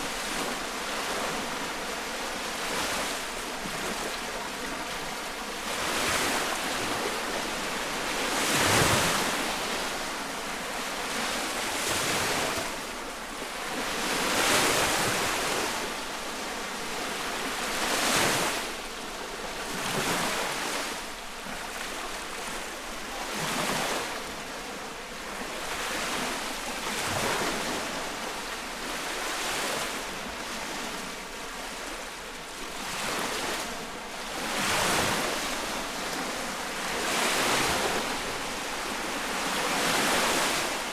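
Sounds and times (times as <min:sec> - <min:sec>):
lake waves washing onto shore: 0:00.0 - 0:40.9.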